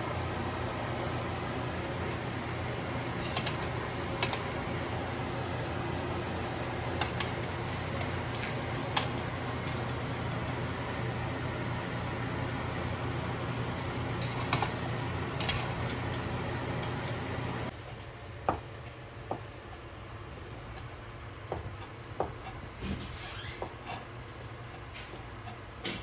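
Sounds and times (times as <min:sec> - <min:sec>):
fan-like background noise: 0:00.0 - 0:26.0.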